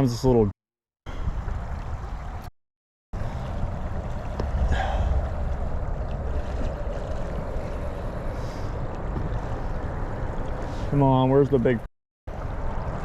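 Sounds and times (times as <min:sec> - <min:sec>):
flowing river water: 0:01.1 - 0:02.5, 0:03.2 - 0:13.0
wind rumbling on microphone: 0:01.1 - 0:02.5, 0:03.2 - 0:11.7, 0:12.3 - 0:13.0.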